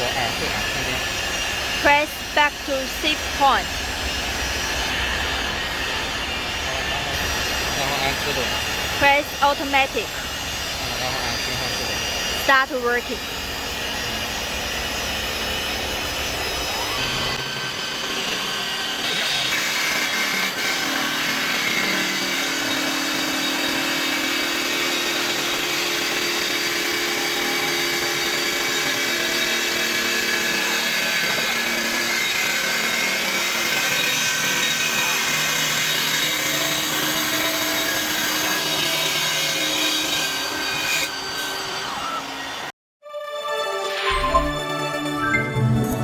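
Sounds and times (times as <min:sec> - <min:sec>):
high whining spindle motor: 0:00.0 - 0:42.7
lathe tool cutting spinning wood: 0:00.0 - 0:42.7.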